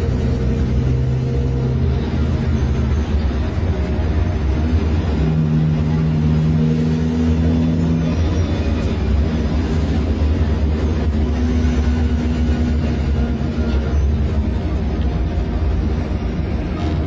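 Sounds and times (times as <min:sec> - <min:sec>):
bus diesel engine rumbling: 0:00.0 - 0:17.0
steady drone: 0:00.0 - 0:17.0.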